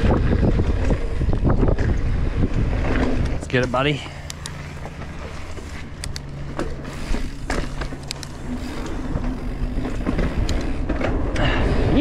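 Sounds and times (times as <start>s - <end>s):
bike clicks and rattles: 0.0s - 12.0s
bike tyres rumbling on trail: 0.0s - 12.0s
wind: 0.0s - 12.0s.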